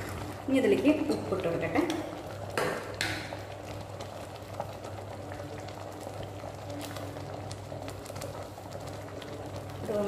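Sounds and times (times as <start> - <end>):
stew bubbling in a pot: 0.0 - 10.0.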